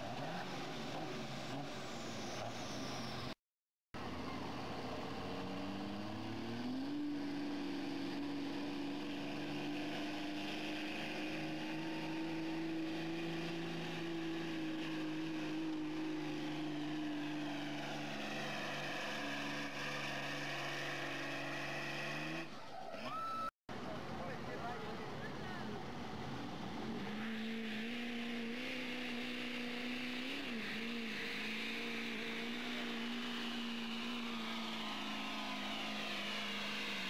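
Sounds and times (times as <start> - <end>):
diesel truck engine at full throttle: 4.0 - 22.6, 23.7 - 37.0.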